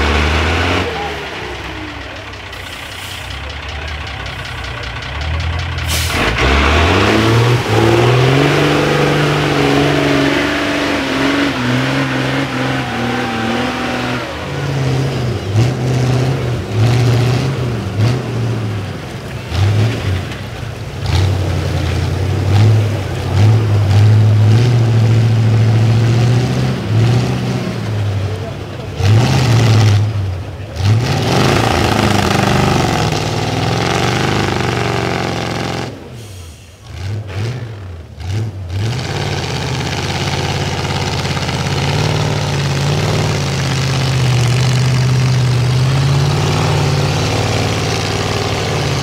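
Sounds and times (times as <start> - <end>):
diesel truck engine revving: 0.0 - 49.0.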